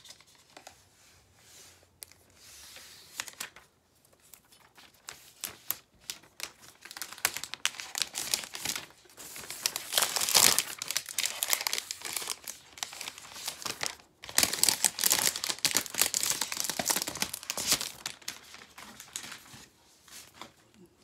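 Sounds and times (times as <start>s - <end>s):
plastic sleeve crinkling: 3.1s - 20.6s.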